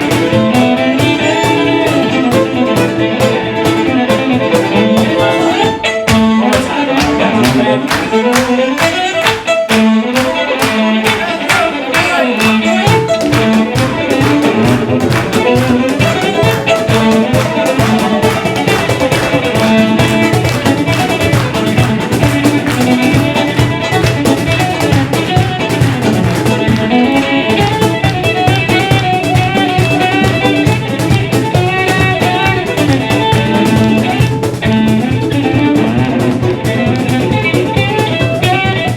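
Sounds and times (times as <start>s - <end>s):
guitar and bass: 0.0s - 11.5s, 12.2s - 38.9s
fiddle melody: 0.0s - 38.9s.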